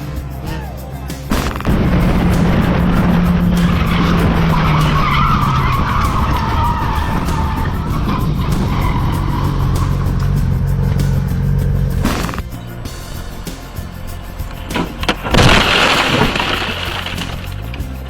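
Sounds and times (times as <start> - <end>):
steady low drone: 0.0 - 18.0
car tyres squealing: 1.3 - 18.0.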